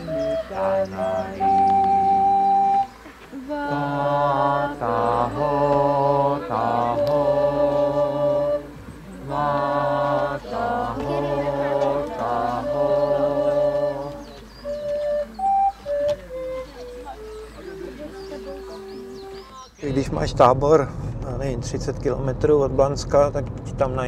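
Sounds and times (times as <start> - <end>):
unaccompanied chant-like singing: 0.0 - 20.4.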